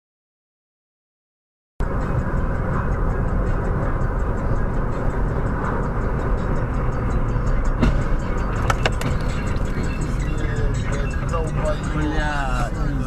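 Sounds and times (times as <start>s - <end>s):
car engine and road noise: 1.8s - 13.0s.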